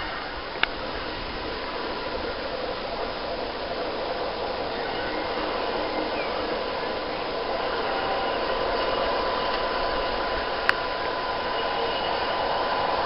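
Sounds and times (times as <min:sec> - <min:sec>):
faint steady whine: 0:00.0 - 0:13.0
moving train rushing noise: 0:00.0 - 0:13.0.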